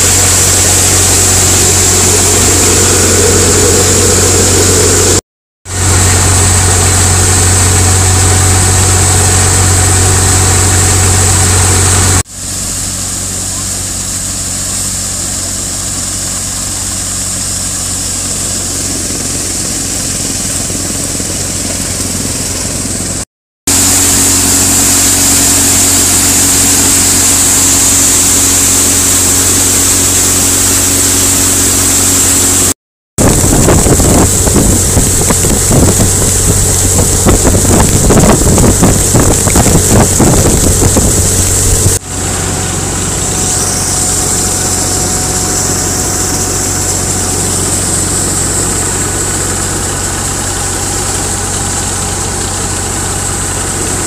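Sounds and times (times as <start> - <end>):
thresher machine droning: 0.0 - 54.0.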